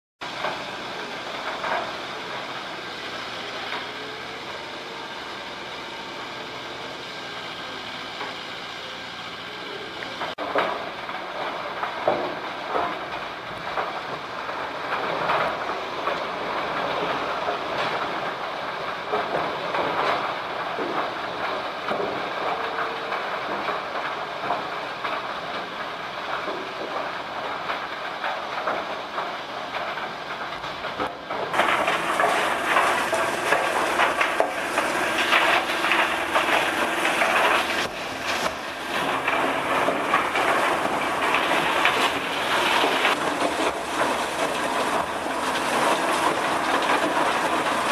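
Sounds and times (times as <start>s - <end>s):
wood crusher shredding boards: 0.2s - 47.9s.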